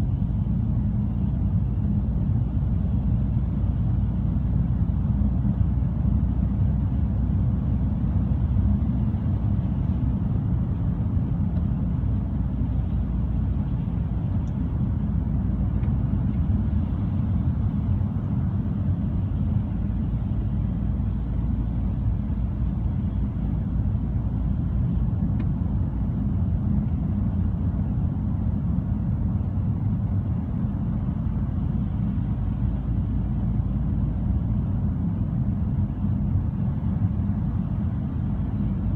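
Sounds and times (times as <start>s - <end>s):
car interior engine and road noise: 0.0s - 38.9s.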